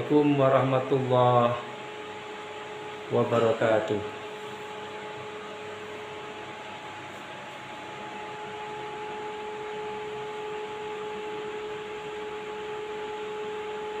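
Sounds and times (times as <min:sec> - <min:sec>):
appliance hum with held tones: 0:00.0 - 0:14.0.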